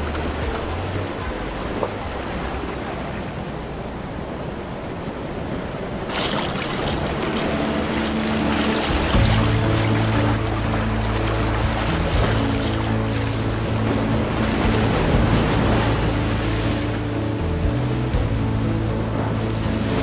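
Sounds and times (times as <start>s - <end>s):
soft background music: 0.0s - 4.2s, 6.1s - 20.0s
waves breaking on beach: 0.0s - 20.0s.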